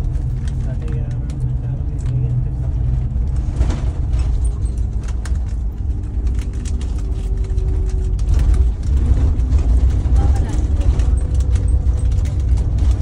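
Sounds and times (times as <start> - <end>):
bus engine and tyres rumbling: 0.0 - 13.0.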